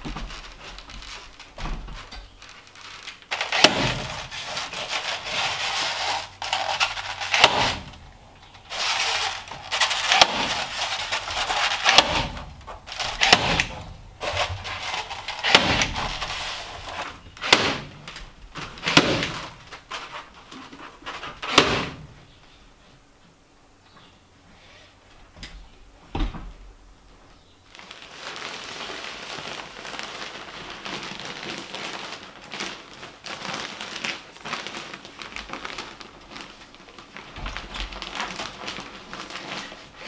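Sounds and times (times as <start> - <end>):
foam baffle rustling and scraping: 0.0 - 22.5, 27.4 - 40.0.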